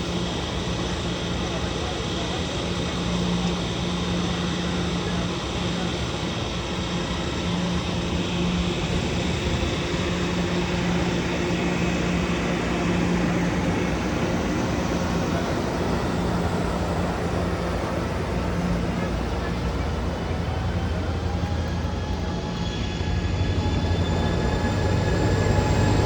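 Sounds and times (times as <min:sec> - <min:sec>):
constant rushing noise: 0:00.0 - 0:26.0
diesel locomotive engine drone: 0:00.0 - 0:26.0.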